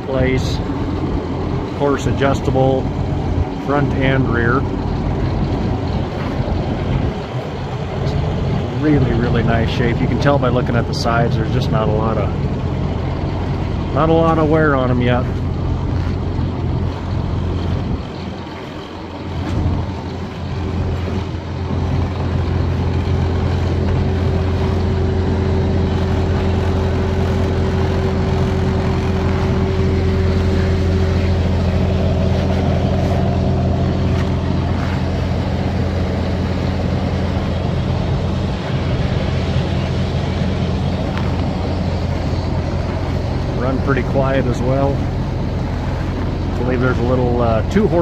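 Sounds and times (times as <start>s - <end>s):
conveyor motor humming: 0.0s - 48.0s.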